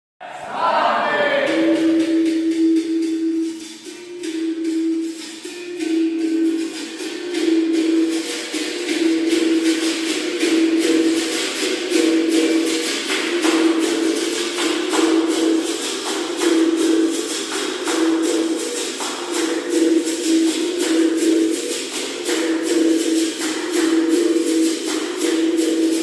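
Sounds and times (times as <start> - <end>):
berimbau playing: 0.9 - 26.0
shaker rattling: 5.0 - 26.0.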